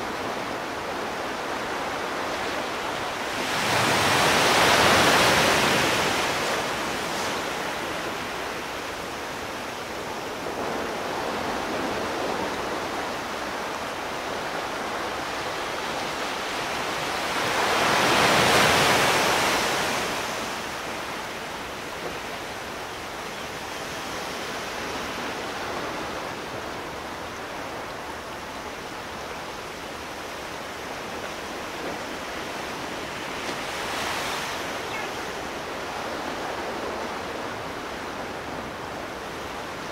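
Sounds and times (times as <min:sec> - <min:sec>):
sea surf washing: 0:00.0 - 0:39.9.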